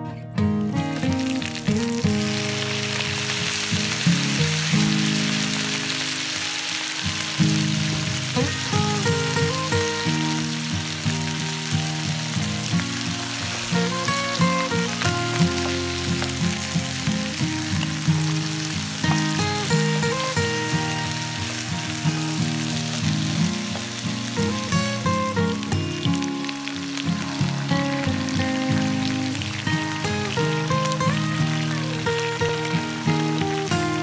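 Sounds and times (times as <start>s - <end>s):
background music: 0.0s - 34.0s
meat sizzling in hot oil: 0.6s - 34.0s.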